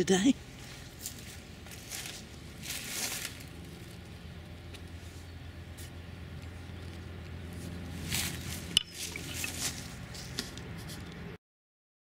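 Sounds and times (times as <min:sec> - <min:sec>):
steady low hum: 0:00.0 - 0:11.4
rustling: 0:00.5 - 0:06.0, 0:06.8 - 0:11.1.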